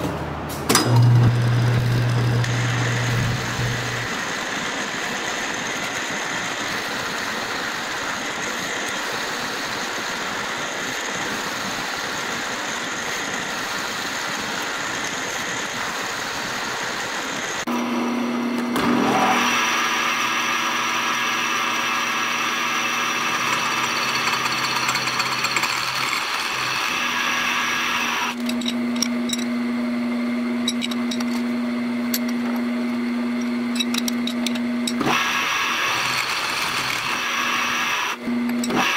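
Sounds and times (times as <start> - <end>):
metal lathe running: 0.8 - 12.8, 17.7 - 29.6, 30.6 - 38.9
milling machine spindle humming: 0.8 - 38.9.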